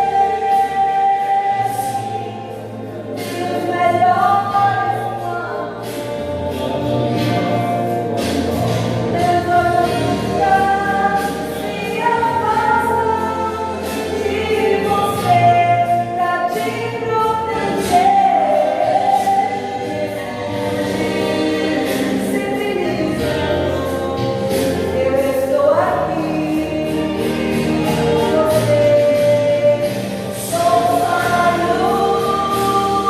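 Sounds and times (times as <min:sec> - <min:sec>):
choir singing a hymn: 0:00.0 - 0:33.0
instrumental accompaniment: 0:00.0 - 0:33.0.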